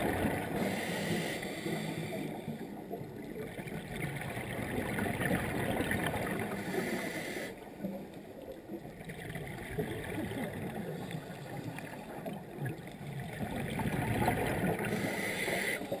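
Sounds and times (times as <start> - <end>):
scuba exhaust bubbles gurgling: 0.0 - 16.0.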